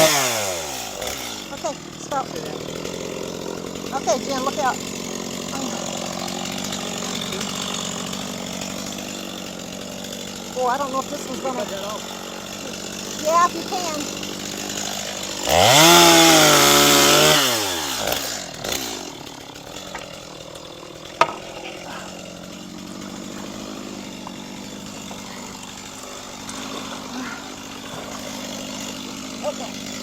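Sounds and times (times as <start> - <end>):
chainsaw revving and idling: 0.0 - 30.0.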